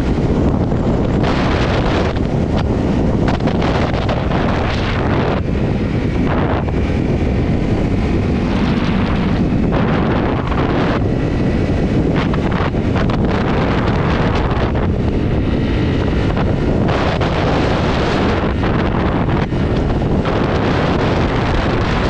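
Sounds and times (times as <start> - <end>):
motorbike engine running: 0.0 - 22.0
wind buffeting microphone: 0.0 - 22.0.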